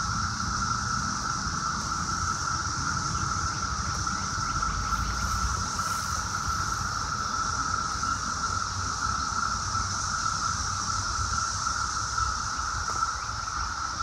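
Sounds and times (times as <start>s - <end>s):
cicadas droning: 0.0s - 14.0s.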